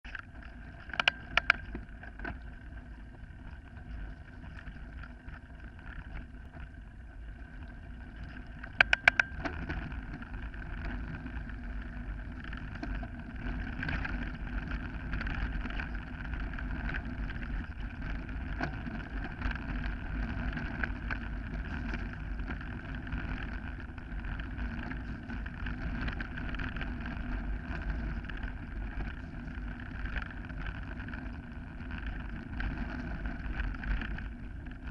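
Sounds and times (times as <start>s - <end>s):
bike tyres rattling on gravel: 0.0s - 34.9s.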